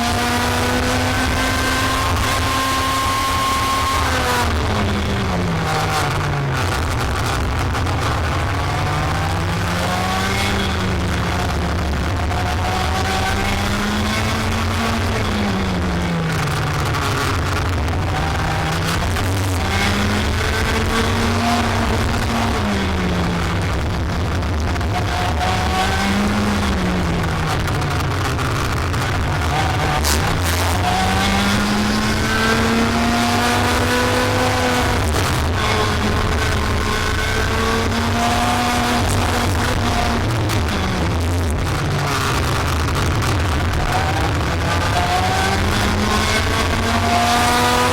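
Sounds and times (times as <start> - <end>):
kart engine running at speed: 0.0 - 47.9.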